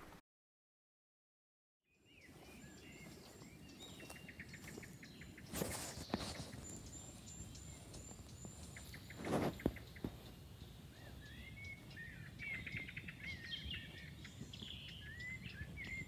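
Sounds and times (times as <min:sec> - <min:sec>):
small birds chirping: 0:01.9 - 0:16.0.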